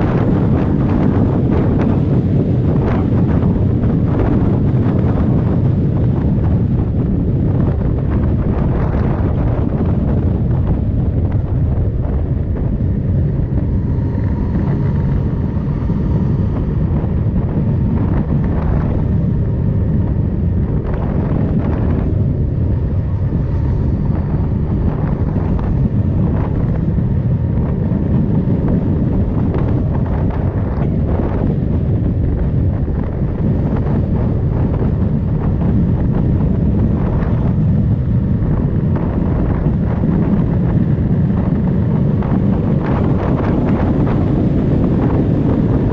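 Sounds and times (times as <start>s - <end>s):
motorcycle engine drone: 0.0s - 45.9s
wind buffeting on microphone: 0.0s - 45.9s.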